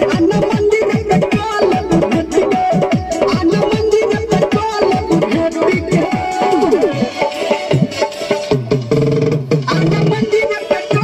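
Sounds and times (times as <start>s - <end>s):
loud dance music with drums: 0.0s - 11.0s.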